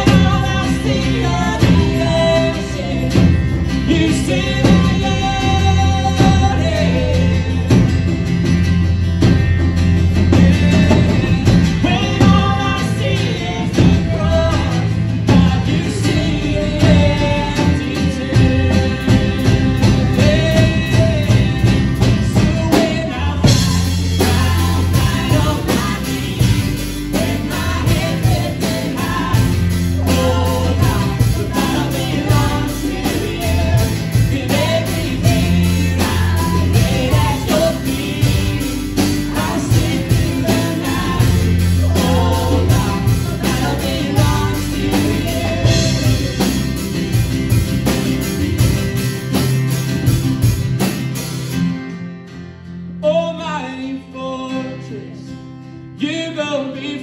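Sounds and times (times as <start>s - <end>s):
sung vocals: 0.0s - 48.8s, 53.0s - 57.0s
live band playing: 0.0s - 53.0s.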